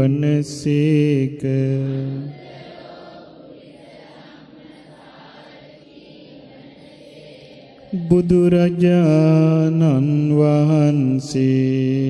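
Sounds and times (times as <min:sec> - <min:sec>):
congregation chanting in unison: 0:00.0 - 0:12.0
monk reciting verse: 0:00.0 - 0:12.0.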